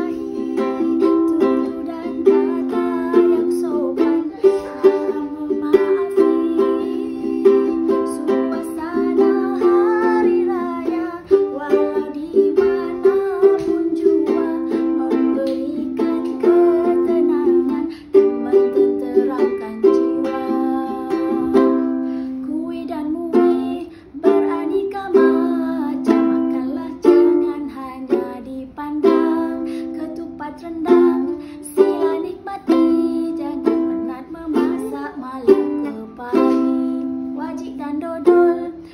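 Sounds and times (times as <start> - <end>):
plucked string music: 0.0 - 38.9.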